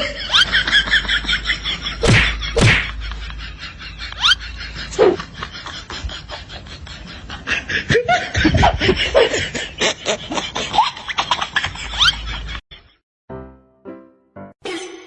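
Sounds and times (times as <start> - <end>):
person laughing: 0.0 - 12.6.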